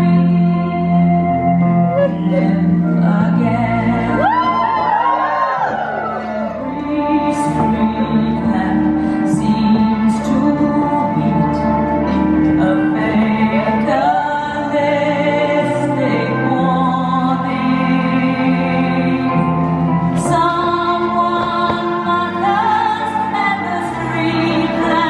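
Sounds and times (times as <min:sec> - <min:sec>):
operatic female singing: 0:00.0 - 0:01.4, 0:02.1 - 0:05.4, 0:06.5 - 0:25.0.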